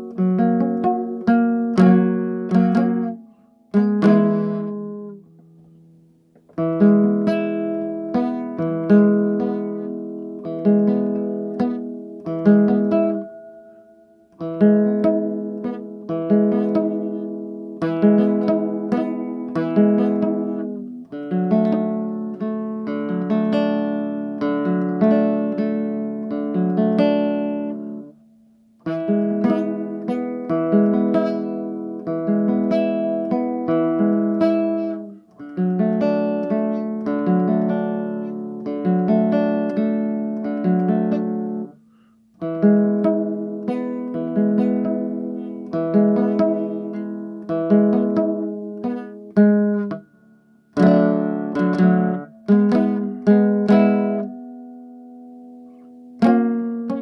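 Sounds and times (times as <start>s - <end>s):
classical guitar fingerstyle: 0.0s - 57.0s.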